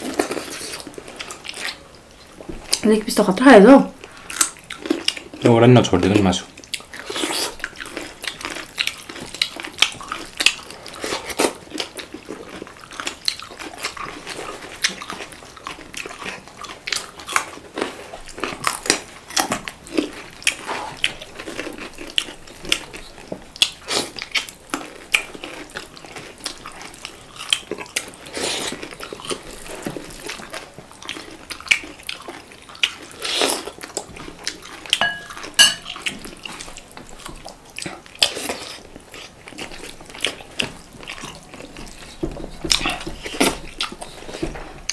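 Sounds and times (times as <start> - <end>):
chewing and biting food: 0.0 - 2.8, 4.0 - 44.9.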